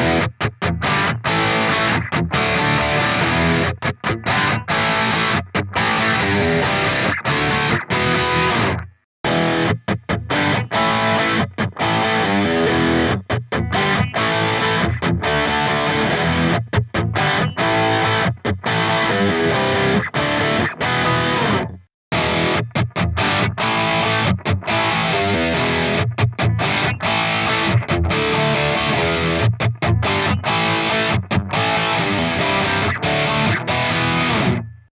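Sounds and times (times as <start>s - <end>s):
distorted electric guitar riffs: 0.0s - 34.9s.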